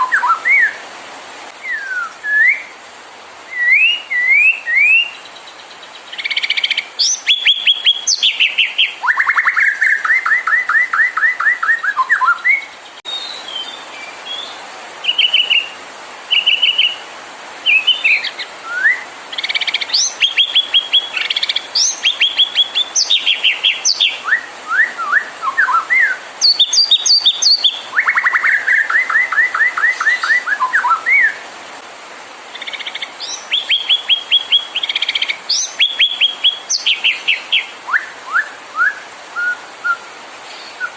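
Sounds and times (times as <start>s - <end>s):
songbird singing varied song: 0.0s - 0.9s, 1.5s - 2.8s, 3.4s - 31.5s, 32.4s - 40.9s.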